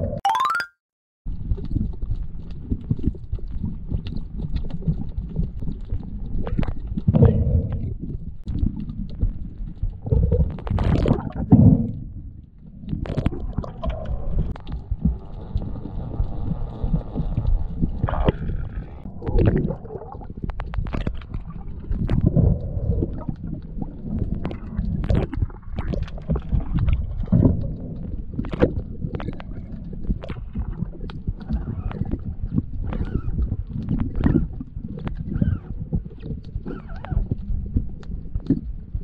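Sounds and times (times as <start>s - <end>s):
underwater water rumbling and gurgling: 1.3s - 39.0s.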